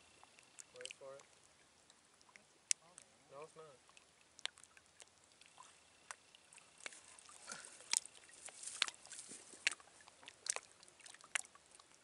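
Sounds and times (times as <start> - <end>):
small water splashes: 0.0 - 12.0.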